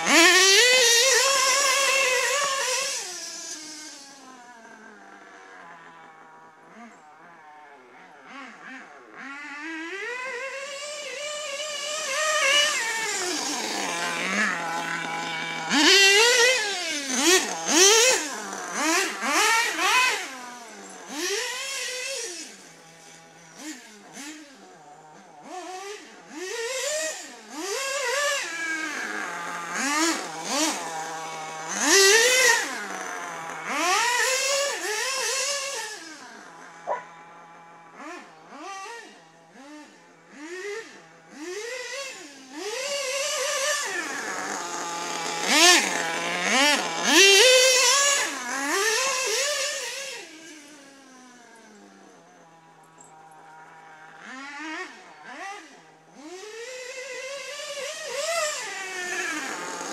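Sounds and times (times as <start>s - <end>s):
model car engine revving: 0.0s - 59.9s.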